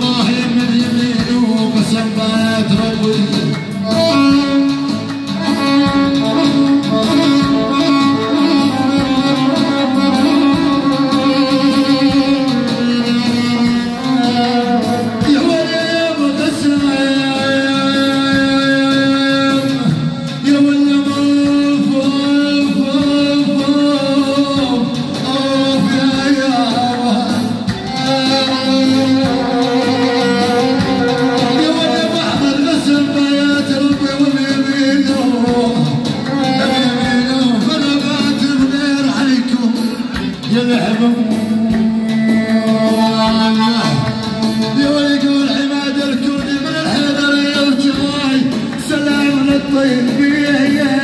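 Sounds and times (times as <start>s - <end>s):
man singing into microphone: 0.0s - 51.0s.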